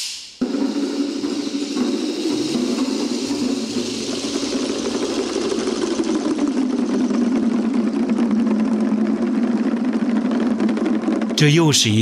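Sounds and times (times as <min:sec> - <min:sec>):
drums rolling: 0:00.0 - 0:12.0.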